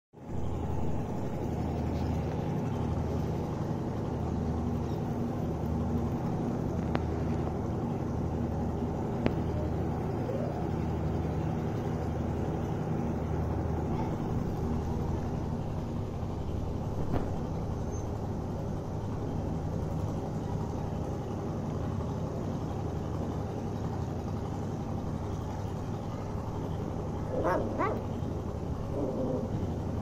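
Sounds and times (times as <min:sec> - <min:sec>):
low motor hum: 0:00.2 - 0:30.0.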